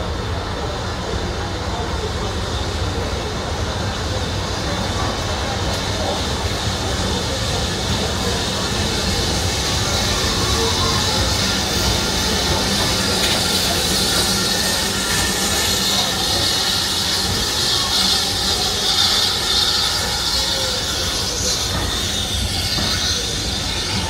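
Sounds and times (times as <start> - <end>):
steam hissing: 0.0 - 24.0
train rumbling on rails: 0.0 - 24.0.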